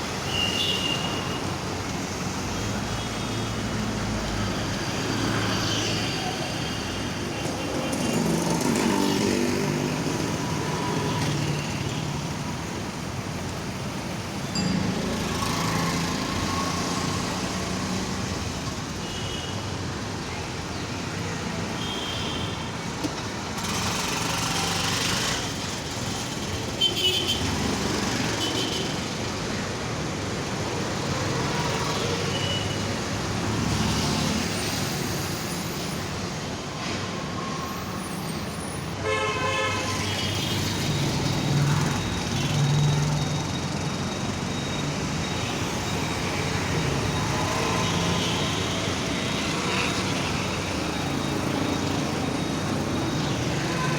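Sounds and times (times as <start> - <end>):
road traffic: 0.0 - 53.9.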